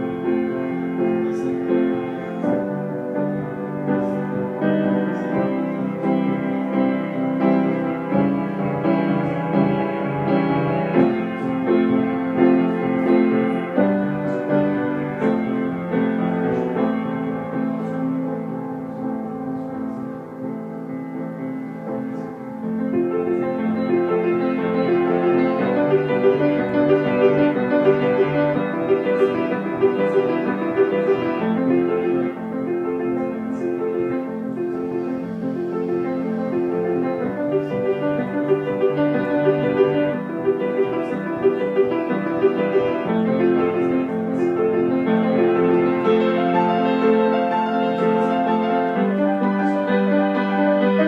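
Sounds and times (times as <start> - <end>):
grand piano chords: 0.0 - 51.0.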